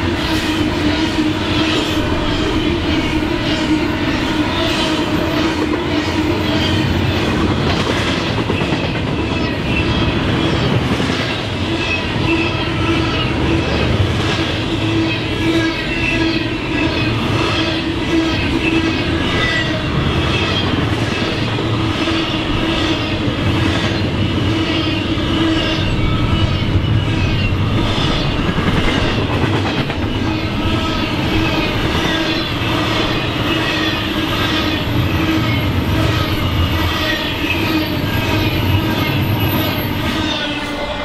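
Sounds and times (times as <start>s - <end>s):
train cars clattering: 0.0s - 41.0s
train wheels rumbling on rails: 0.0s - 41.0s.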